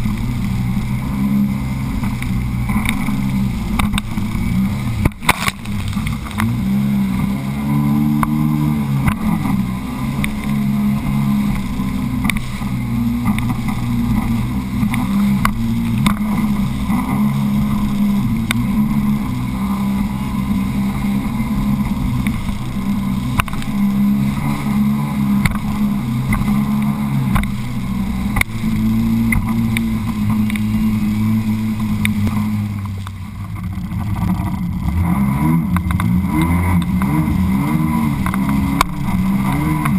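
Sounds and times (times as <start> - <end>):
watercraft engine running: 0.0 - 39.9.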